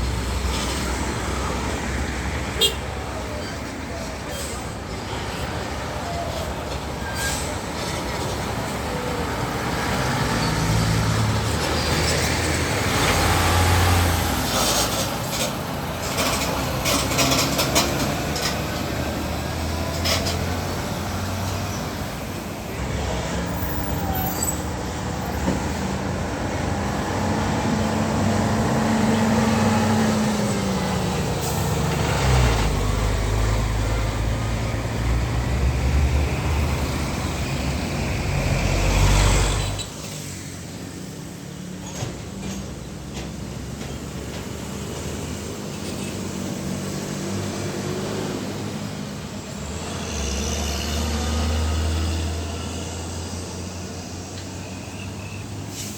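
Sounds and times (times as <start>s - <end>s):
diesel trucks passing: 0.0s - 55.9s
traffic noise: 0.0s - 55.9s.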